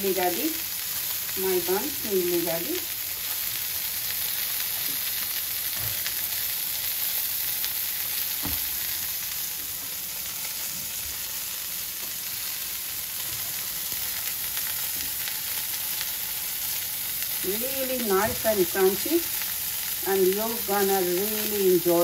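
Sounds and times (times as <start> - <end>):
hot oil sizzling in frying pans: 0.0 - 22.0.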